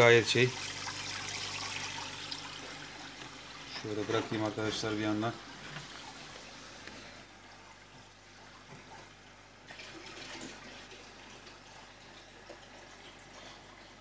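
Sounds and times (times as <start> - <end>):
aquarium water bubbling: 0.0 - 14.0.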